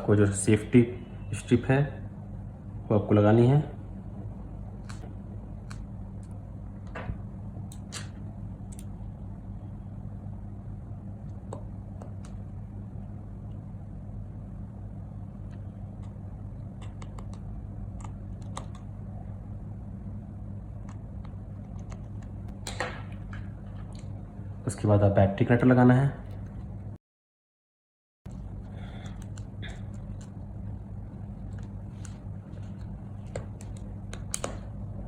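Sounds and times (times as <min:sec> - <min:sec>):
steady low hum: 0:00.0 - 0:27.0, 0:28.3 - 0:35.0.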